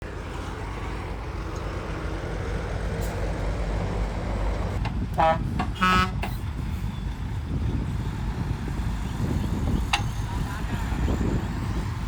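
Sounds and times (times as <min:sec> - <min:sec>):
heavy diesel machinery rumbling: 0:00.0 - 0:12.0.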